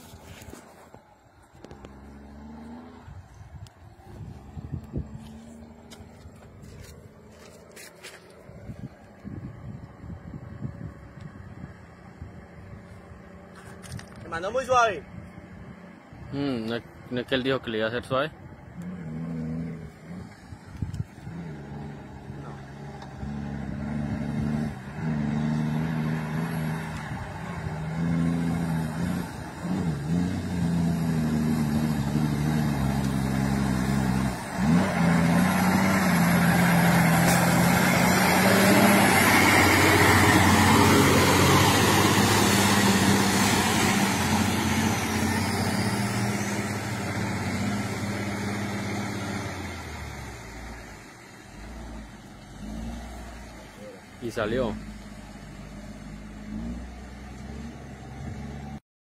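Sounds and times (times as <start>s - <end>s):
truck diesel engine: 0.0s - 58.8s.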